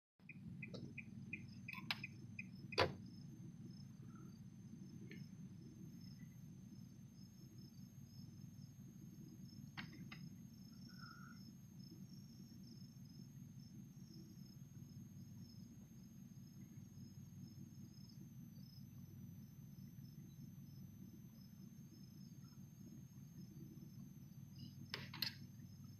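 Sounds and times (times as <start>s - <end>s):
low hum: 0.2s - 25.9s.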